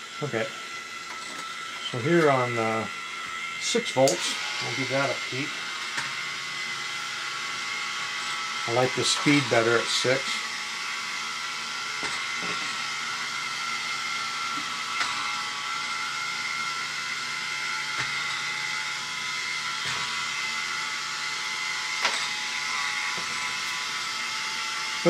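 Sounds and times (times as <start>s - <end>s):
gear motors whining: 0.0s - 25.0s.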